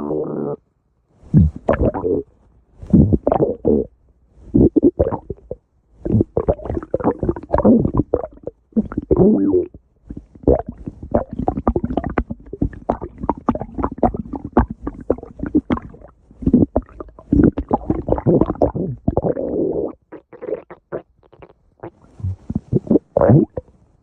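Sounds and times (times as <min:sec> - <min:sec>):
stomach growling and gurgling: 0:01.3 - 0:03.9, 0:04.5 - 0:23.8.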